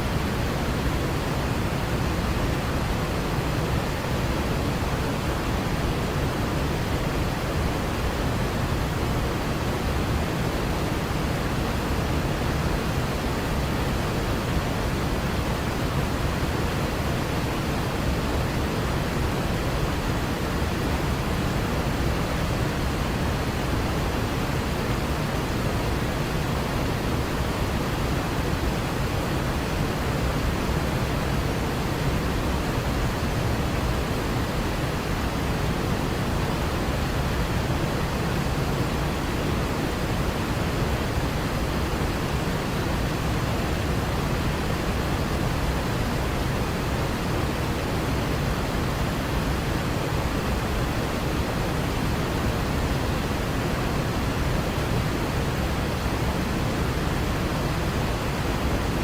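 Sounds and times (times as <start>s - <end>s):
waterfall rushing: 0.1s - 59.0s.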